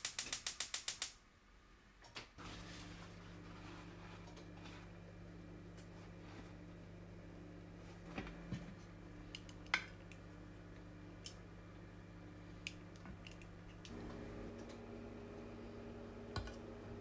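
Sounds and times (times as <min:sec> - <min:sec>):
appliance hum: 0:02.1 - 0:17.0.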